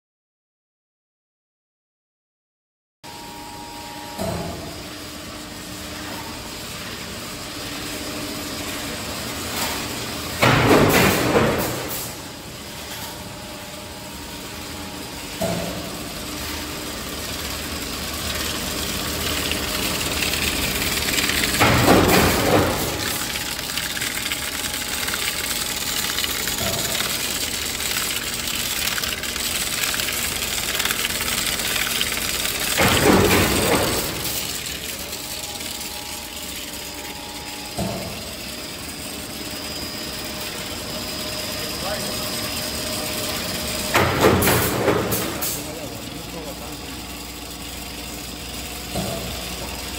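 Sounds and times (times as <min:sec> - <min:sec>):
machine humming: 0:05.2 - 0:49.9.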